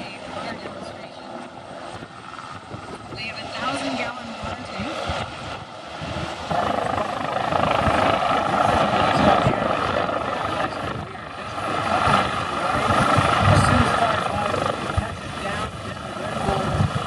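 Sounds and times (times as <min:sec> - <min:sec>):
helicopter rotor thudding: 0:00.0 - 0:17.0
helicopter turbine whine: 0:00.0 - 0:17.0.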